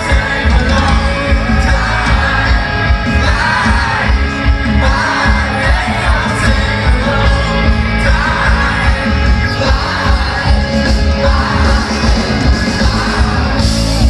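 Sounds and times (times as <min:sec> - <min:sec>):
live rock band: 0:00.0 - 0:14.0
male singer: 0:00.0 - 0:14.0.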